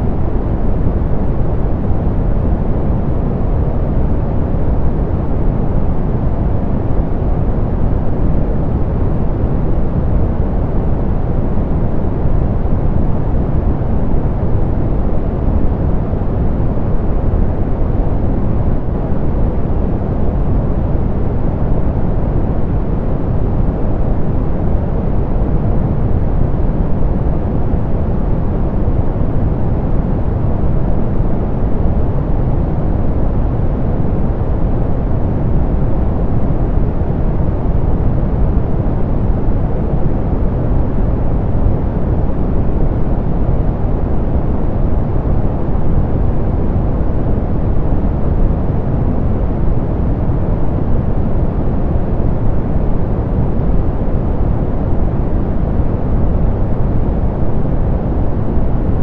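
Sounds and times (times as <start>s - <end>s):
muffled pink noise hiss: 0.0s - 59.0s.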